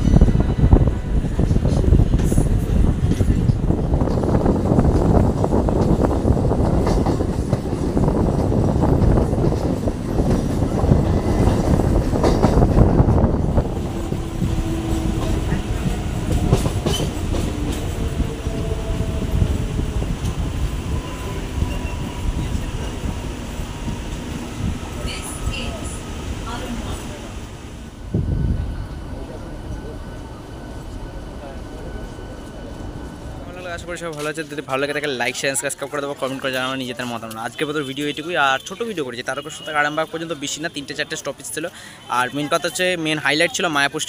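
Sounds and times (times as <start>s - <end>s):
train wheels rumbling and clacking: 0.0s - 38.2s.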